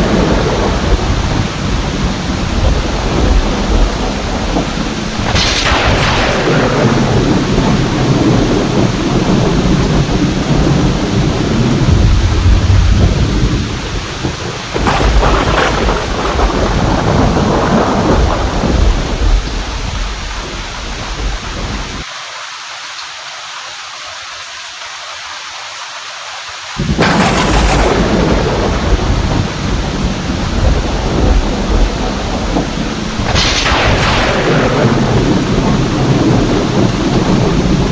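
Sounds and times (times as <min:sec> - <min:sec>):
rolling thunder: 0:00.0 - 0:22.0, 0:26.8 - 0:37.9
sharp thunderclap: 0:00.0 - 0:22.0, 0:26.8 - 0:37.9
heavy steady rain: 0:00.0 - 0:37.9.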